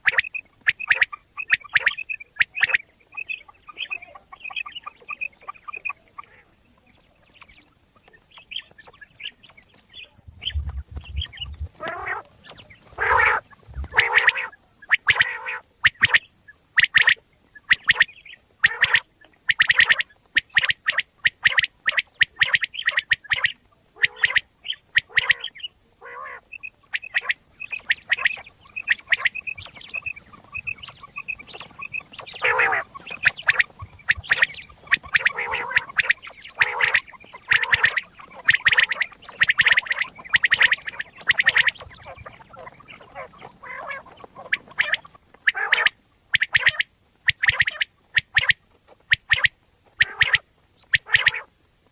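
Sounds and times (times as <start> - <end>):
quail calling: 0.0 - 51.6.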